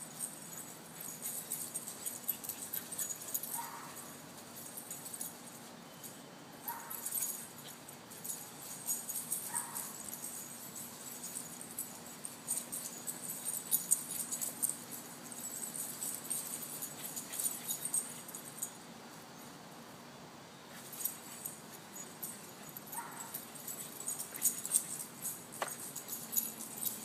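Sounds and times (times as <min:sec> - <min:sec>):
metallic jingling: 0:00.0 - 0:18.8, 0:20.7 - 0:27.0.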